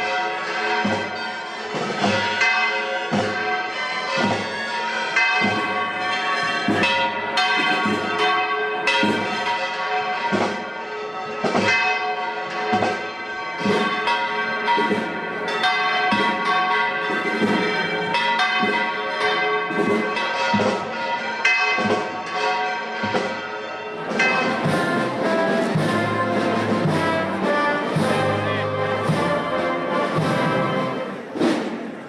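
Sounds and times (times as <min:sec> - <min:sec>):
church bells pealing: 0:00.0 - 0:31.4.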